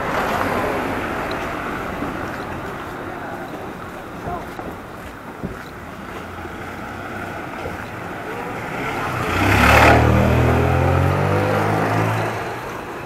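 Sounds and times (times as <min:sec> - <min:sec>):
motor scooter passing: 0:00.0 - 0:04.4, 0:05.6 - 0:13.0
car passing: 0:00.0 - 0:13.0.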